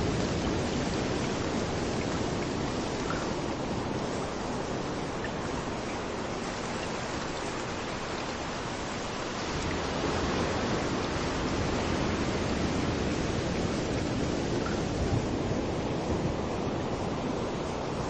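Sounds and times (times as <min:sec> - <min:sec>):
rain rushing: 0:00.0 - 0:18.0
waves washing onto beach: 0:00.0 - 0:18.0.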